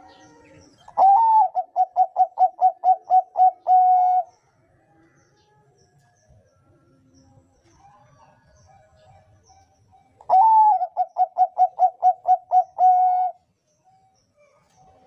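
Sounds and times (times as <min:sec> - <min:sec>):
dove cooing song: 0:00.0 - 0:15.0.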